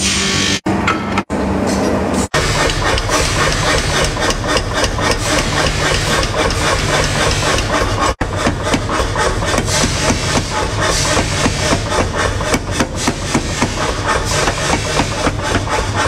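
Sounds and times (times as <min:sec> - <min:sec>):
power hammer pounding steel: 0:02.3 - 0:16.0.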